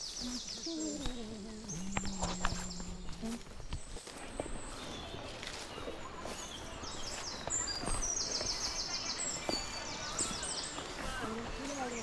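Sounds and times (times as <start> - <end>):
birds singing high thin chirps: 0.0 - 12.0.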